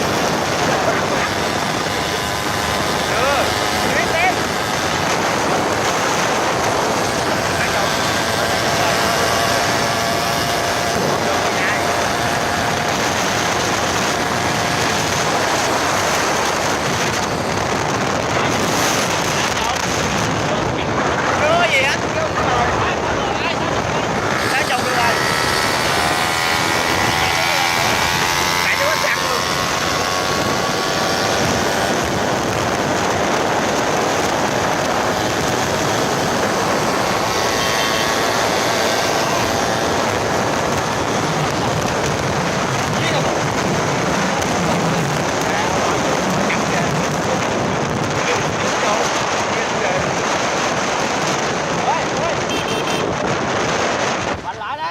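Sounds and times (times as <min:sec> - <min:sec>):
small engine droning: 0:00.0 - 0:20.3, 0:23.0 - 0:51.3
wind buffeting microphone: 0:00.0 - 0:54.9.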